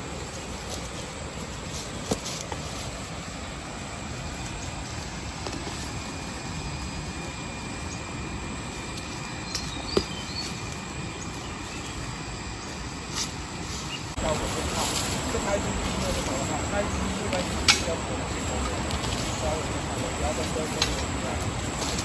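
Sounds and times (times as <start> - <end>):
outdoor rumble and hiss: 0.0 - 22.0.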